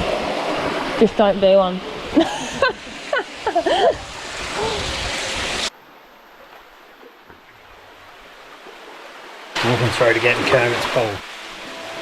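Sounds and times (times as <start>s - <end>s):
rushing creek water: 0.0s - 12.0s.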